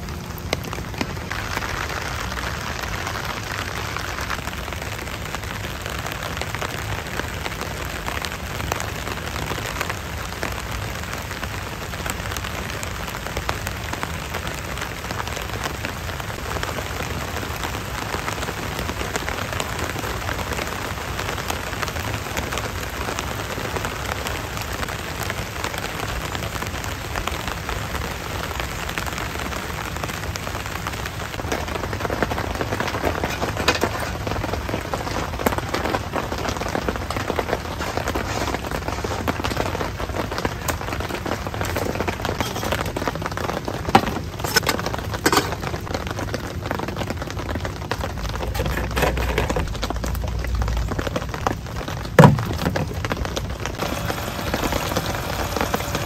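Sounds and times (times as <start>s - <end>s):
rain pattering on tent tarp: 0.0s - 56.0s.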